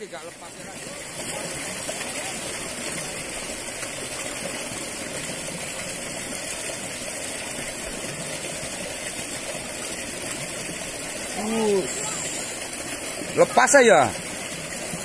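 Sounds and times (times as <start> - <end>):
water rushing through ditch: 0.0 - 15.0.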